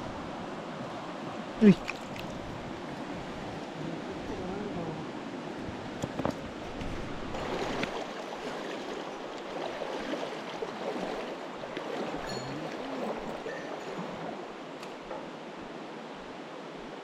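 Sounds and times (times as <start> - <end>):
stream rushing over rocks: 0.1 - 4.4, 5.1 - 16.4.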